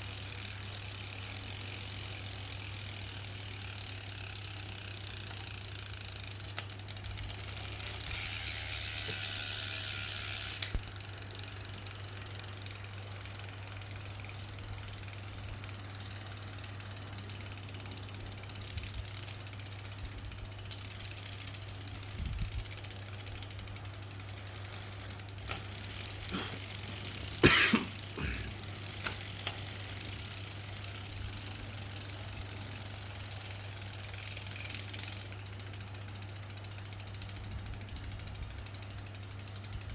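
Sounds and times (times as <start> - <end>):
bike drivetrain clicking: 0.0 - 39.9.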